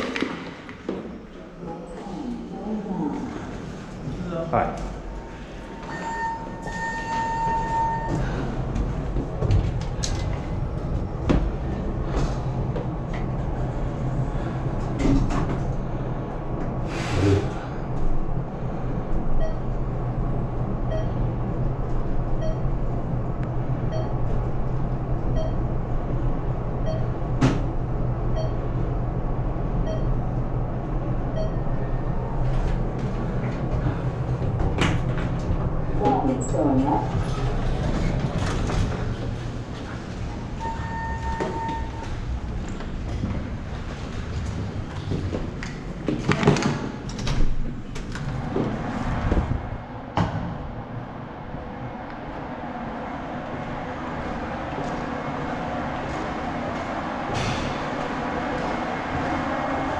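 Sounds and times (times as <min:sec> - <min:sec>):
elevator car humming: 0:00.0 - 0:59.9.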